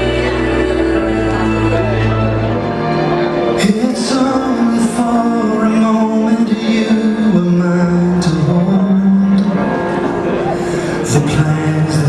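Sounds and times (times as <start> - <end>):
person singing with music: 0.0 - 12.0.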